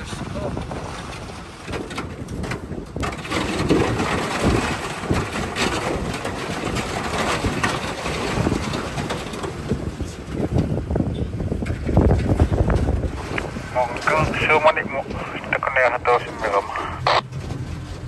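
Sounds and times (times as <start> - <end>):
boat rushing through water: 0.0 - 18.0
wind buffeting microphone: 0.0 - 18.0.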